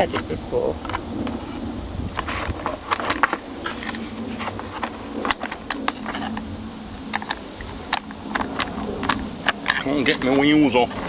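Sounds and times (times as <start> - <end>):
low hum: 0.1 - 11.0.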